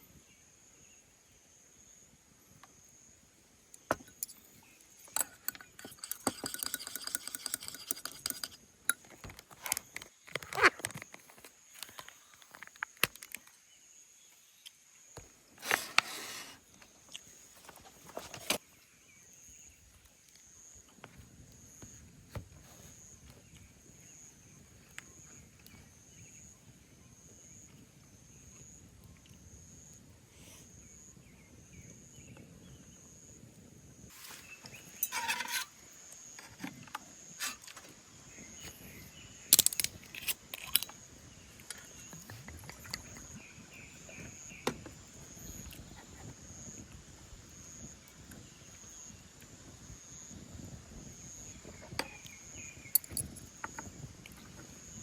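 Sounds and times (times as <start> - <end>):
insects chirping trill: 0.0 - 55.0.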